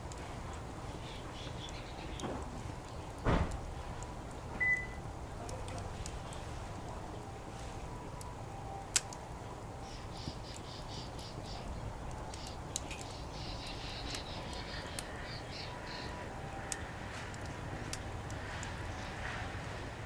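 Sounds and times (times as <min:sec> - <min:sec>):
distant traffic rumble: 0:00.0 - 0:20.0
wood fire crackling and popping: 0:00.0 - 0:20.0.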